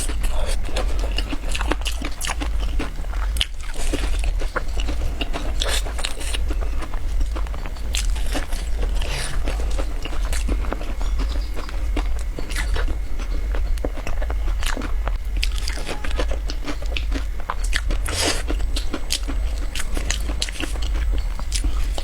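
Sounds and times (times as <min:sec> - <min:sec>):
biscuit crunching and chewing: 0:00.0 - 0:22.0
steady low hum: 0:00.0 - 0:22.0.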